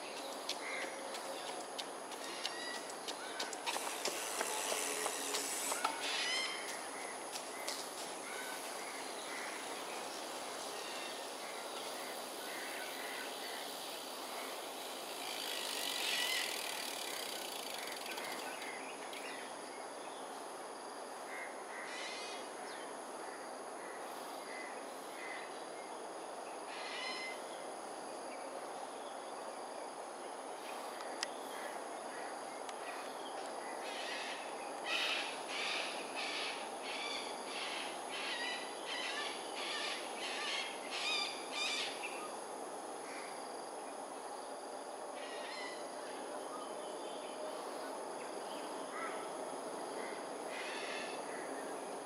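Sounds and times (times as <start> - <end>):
outdoor background noise: 0.0 - 52.0.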